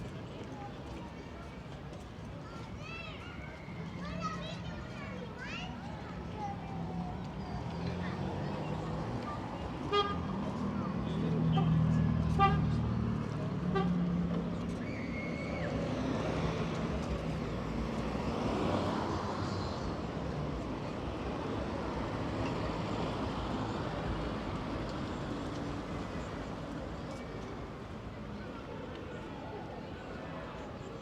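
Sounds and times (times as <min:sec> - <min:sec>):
passing traffic: 0:00.0 - 0:31.0.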